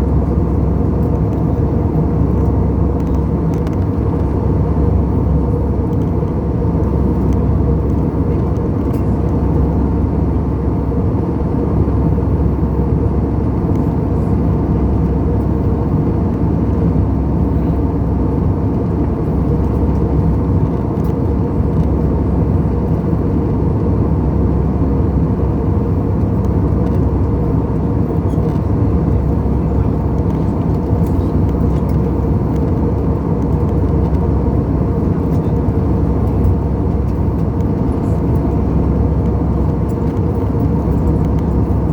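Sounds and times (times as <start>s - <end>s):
airliner deep rumble: 0.0s - 41.9s.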